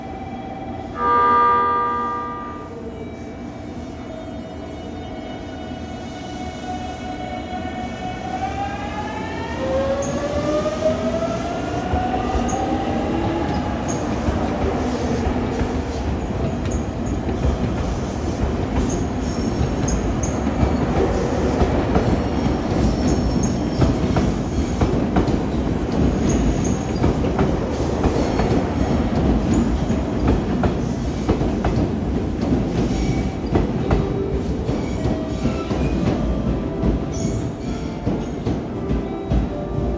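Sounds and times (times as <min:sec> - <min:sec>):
train rumbling by: 0:00.0 - 0:39.9.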